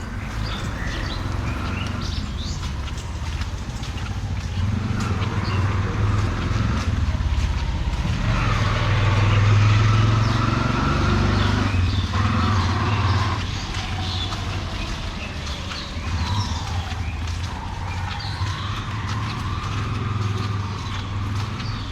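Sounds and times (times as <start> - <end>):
vehicle engine passing by: 0.0 - 21.9.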